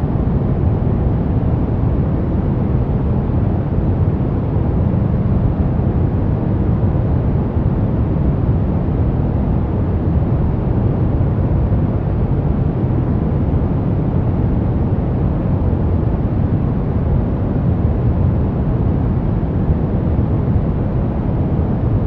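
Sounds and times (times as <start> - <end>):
deep rumbling white noise: 0.0 - 22.0.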